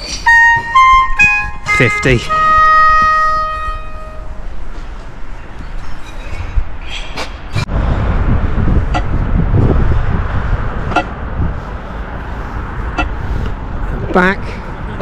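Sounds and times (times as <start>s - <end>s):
street traffic rumbling: 0.0s - 15.0s.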